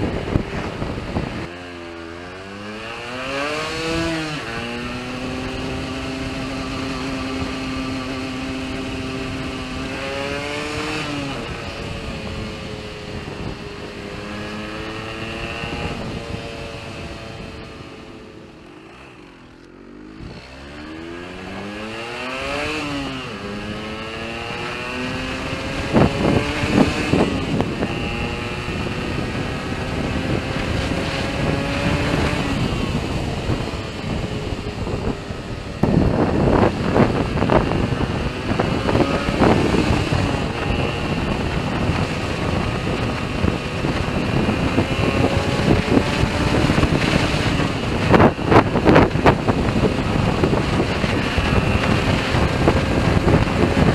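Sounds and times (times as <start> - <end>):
two-stroke engine running: 0.0 - 53.9.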